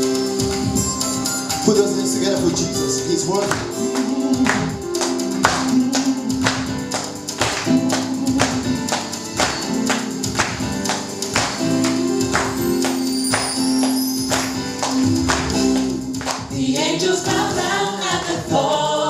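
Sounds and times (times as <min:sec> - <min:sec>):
held chords: 0:00.0 - 0:18.6
steady percussion beat: 0:00.0 - 0:18.9.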